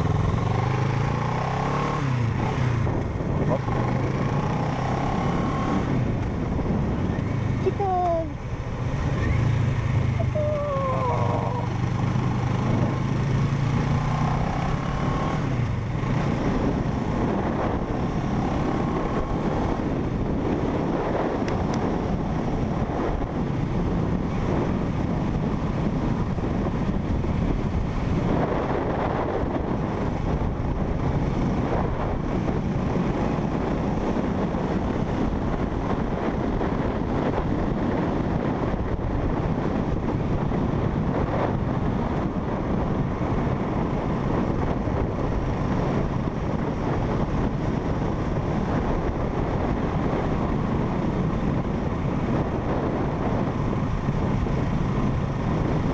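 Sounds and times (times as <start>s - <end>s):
motorcycle engine running: 0.0s - 55.9s
wind rushing over microphone: 0.0s - 55.9s.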